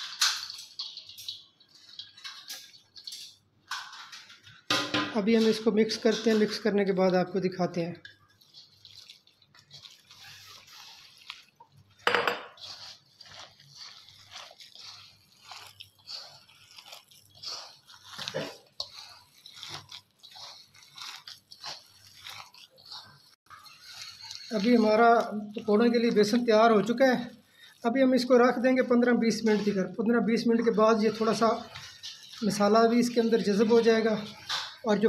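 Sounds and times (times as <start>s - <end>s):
hand mixing food in metal bowl: 0.0s - 35.0s.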